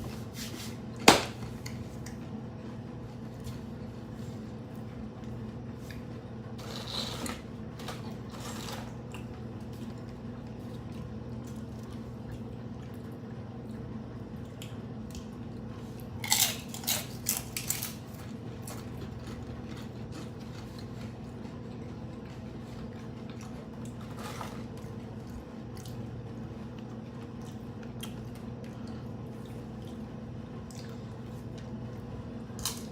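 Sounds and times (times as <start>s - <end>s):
tacos crunching being chewed: 3.2s - 32.9s.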